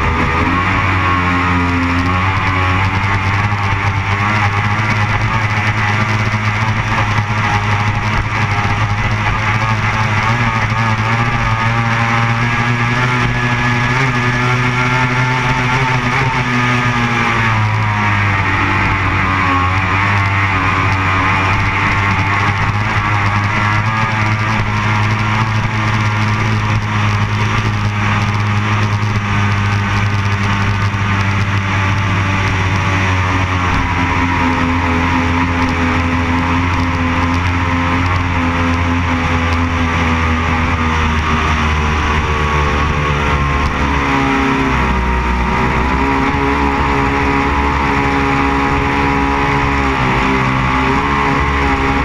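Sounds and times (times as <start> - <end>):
powerboat engine running: 0.0 - 52.0.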